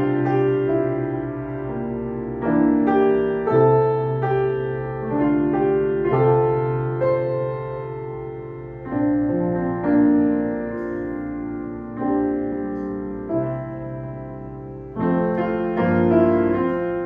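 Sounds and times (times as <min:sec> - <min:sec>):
piano played slowly: 0:00.0 - 0:17.0.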